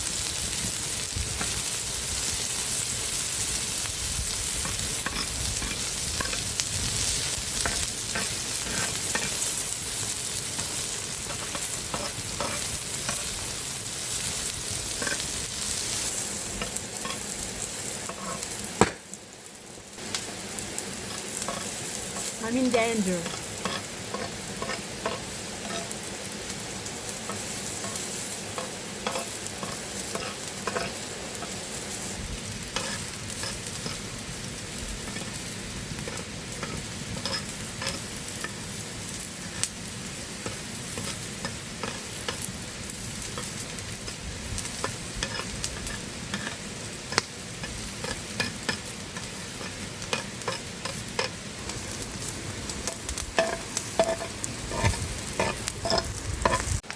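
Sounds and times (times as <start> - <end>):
campfire pops and crackles: 0.0 - 56.9
food sizzling on hot stone: 0.0 - 56.9.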